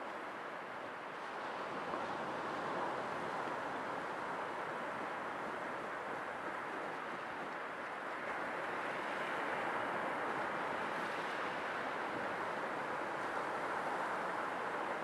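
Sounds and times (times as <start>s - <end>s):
sea waves washing on shore: 0.2s - 15.0s.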